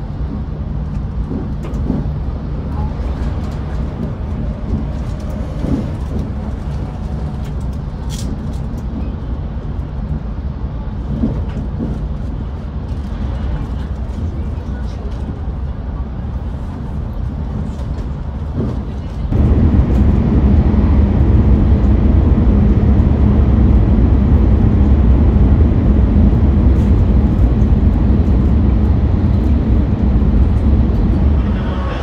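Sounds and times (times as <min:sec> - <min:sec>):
train cabin rumble: 0:00.0 - 0:32.0.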